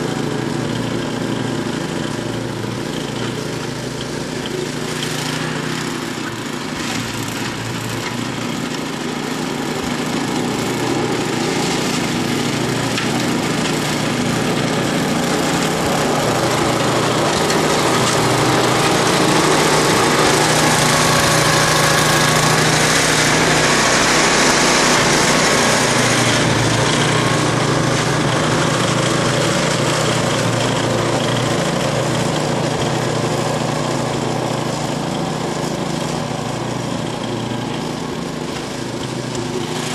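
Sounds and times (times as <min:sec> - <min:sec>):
auger hissing and throwing snow: 0:00.0 - 0:39.9
snowblower engine running: 0:00.0 - 0:39.9.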